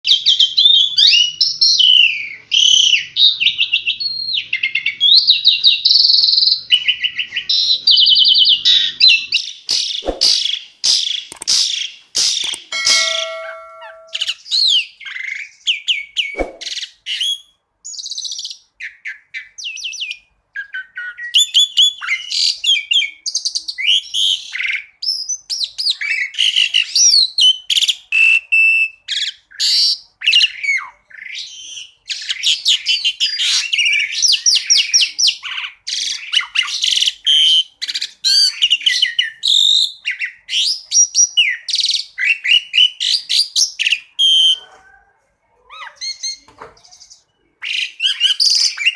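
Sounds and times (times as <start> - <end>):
starling singing chirps and trills: 0.0 - 44.6, 45.7 - 48.9.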